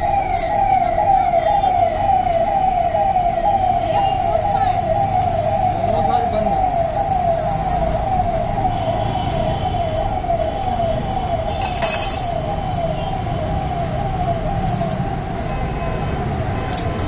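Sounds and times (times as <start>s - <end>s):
siren-like warble: 0.0s - 17.0s.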